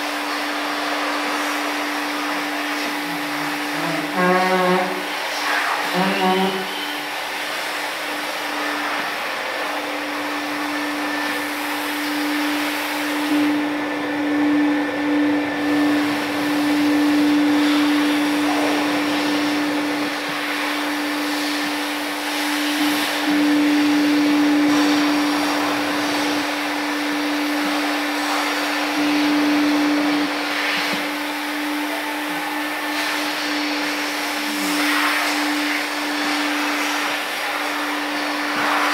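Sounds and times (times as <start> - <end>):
vacuum motor hum: 0.0 - 38.9.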